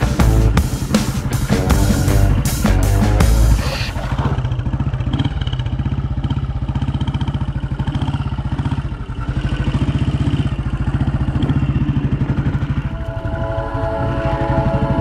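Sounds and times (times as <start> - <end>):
motorcycle engine thumping: 0.0 - 13.0.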